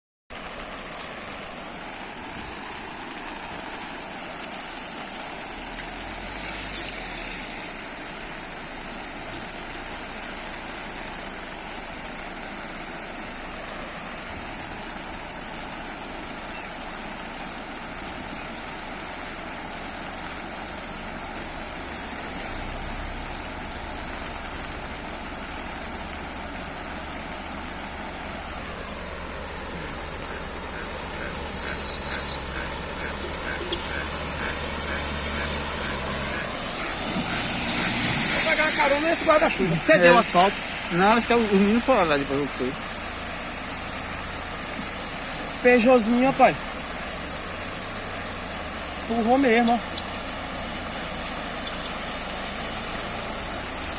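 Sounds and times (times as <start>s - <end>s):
heavy rain hissing: 0.3s - 53.9s.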